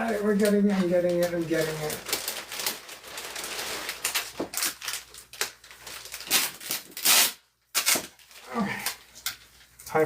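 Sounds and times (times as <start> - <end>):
plastic sheeting crinkling: 0.0 - 10.0.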